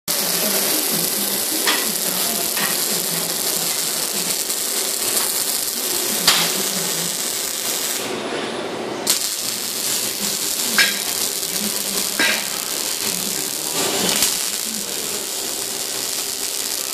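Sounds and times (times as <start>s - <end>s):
welding arc crackling hiss: 0.1s - 8.2s, 9.0s - 16.9s.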